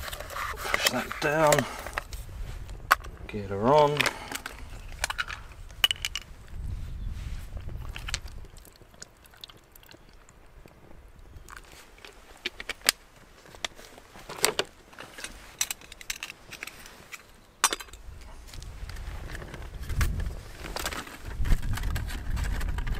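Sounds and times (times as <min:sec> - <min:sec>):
sharp clicks and crunches: 0:00.0 - 0:06.3, 0:07.5 - 0:10.8, 0:11.4 - 0:22.9.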